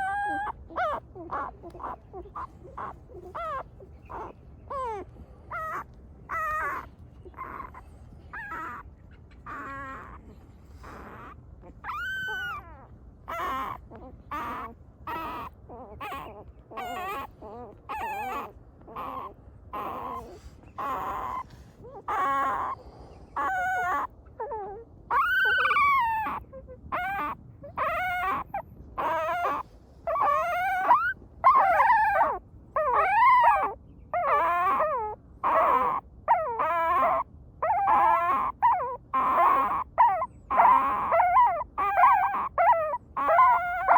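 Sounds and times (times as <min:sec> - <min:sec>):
puppy whimpering: 0:00.0 - 0:43.9.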